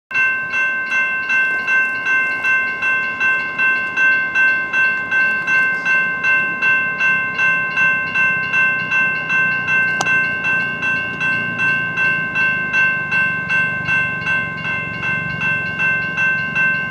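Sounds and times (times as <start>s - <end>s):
crossing warning bell ringing: 0.1s - 16.9s
train rumble: 0.2s - 16.9s.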